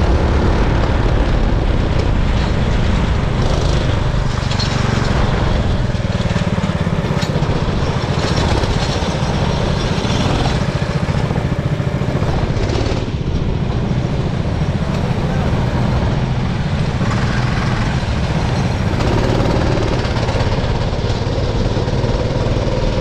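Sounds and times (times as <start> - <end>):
kart engine running hard: 0.0 - 23.0.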